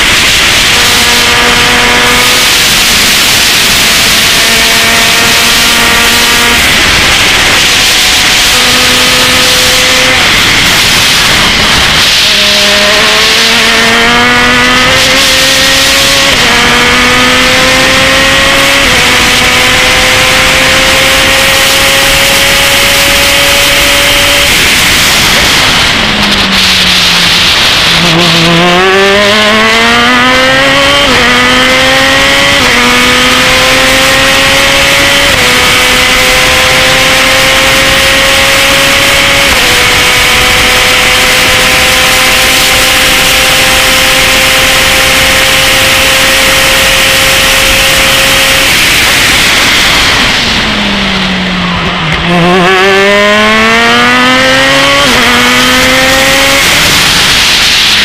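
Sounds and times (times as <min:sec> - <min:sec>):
race car engine at full throttle: 0:00.0 - 0:58.0
wind rush: 0:00.0 - 0:58.0.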